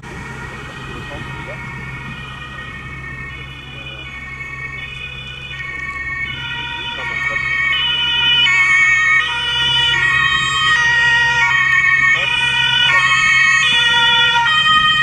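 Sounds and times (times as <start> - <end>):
two-tone emergency siren: 0.0 - 15.0.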